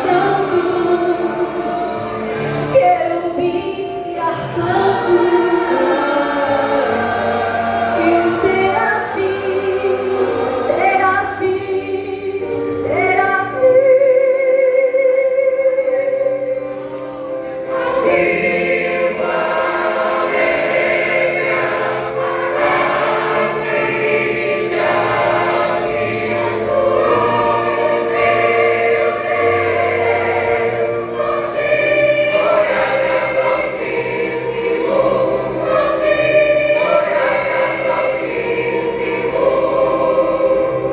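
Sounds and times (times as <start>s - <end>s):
vocal group singing gospel: 0.0s - 2.8s, 4.2s - 13.2s, 17.6s - 40.9s.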